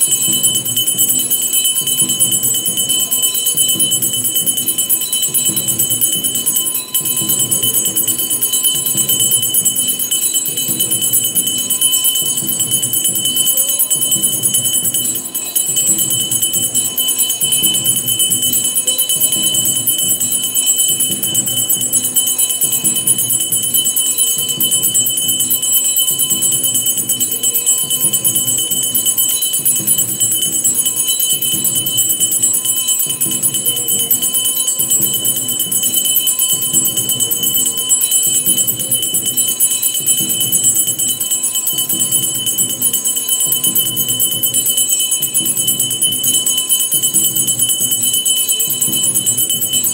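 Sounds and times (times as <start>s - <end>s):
bell ringing: 0.0s - 49.9s.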